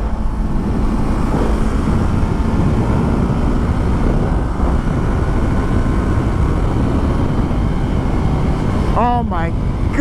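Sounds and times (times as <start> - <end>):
motorcycle engine drone: 0.0 - 10.0
wind rushing over microphone: 0.0 - 10.0.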